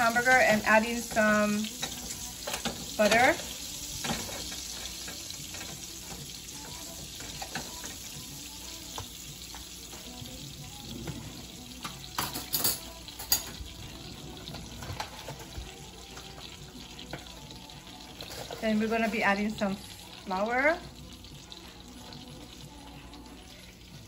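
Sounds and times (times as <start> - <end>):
grease sizzling in a frying pan: 0.0 - 24.0.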